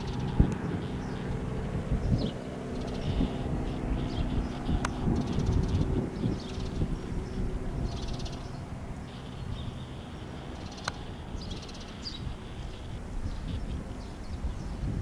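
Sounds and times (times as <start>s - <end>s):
bird calling: 0.0s - 14.8s
distant helicopter rumble: 0.0s - 15.0s.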